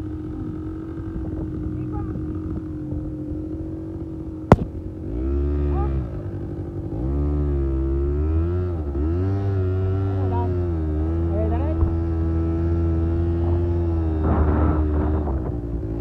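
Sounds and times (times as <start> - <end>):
atv engine revving: 0.0 - 16.0.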